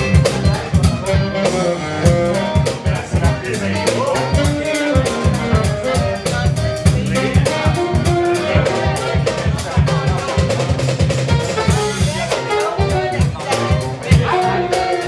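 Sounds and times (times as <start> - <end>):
bass guitar: 0.0 - 15.0
drum kit steady beat: 0.0 - 15.0
electric guitar: 0.0 - 15.0
saxophone: 0.0 - 15.0.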